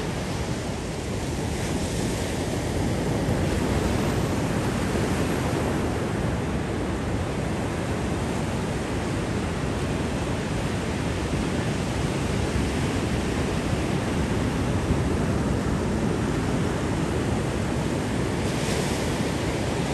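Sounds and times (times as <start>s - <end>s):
ocean surf breaking on beach: 0.0s - 19.9s.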